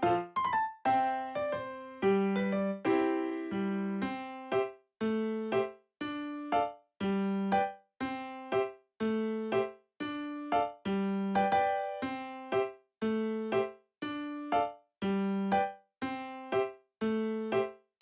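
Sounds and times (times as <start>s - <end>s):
electric piano chords: 0.0s - 17.8s.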